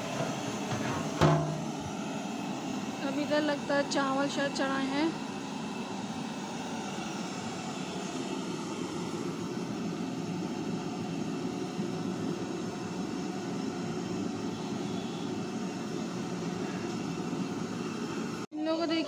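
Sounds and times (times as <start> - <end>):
gas burner roaring: 0.0 - 18.5.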